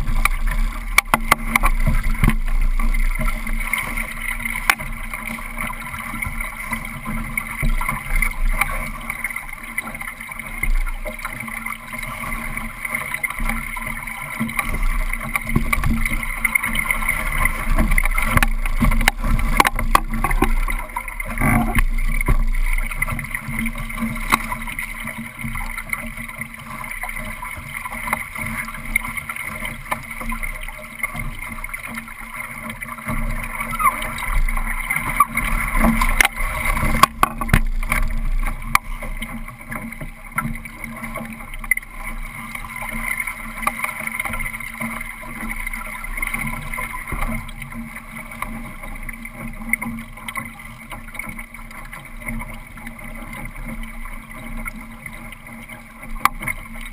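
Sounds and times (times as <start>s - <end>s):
knocks and clatter on boat: 0.0s - 56.9s
water slapping against hull: 0.0s - 56.9s.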